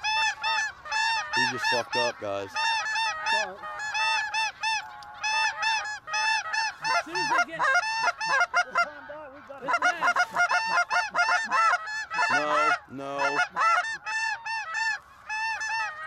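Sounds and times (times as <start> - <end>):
geese calling: 0.0 - 16.0.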